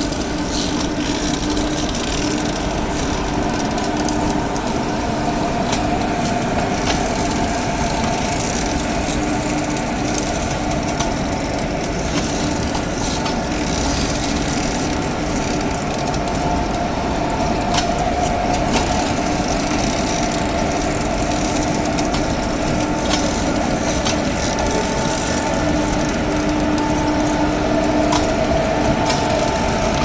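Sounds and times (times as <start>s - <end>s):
locomotive equipment humming: 0.1s - 30.0s.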